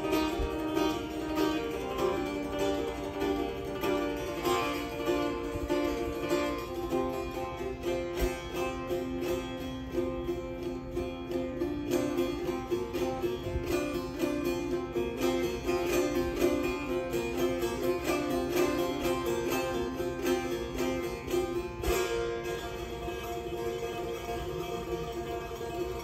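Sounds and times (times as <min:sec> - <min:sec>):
plucked lute notes: 0:00.0 - 0:26.0
ringing drone of open strings: 0:00.0 - 0:26.0.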